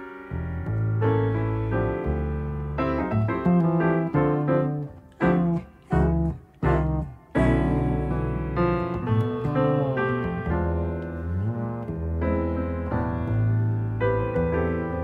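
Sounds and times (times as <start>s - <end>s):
double bass: 0.0s - 15.0s
jazz piano: 0.0s - 15.0s.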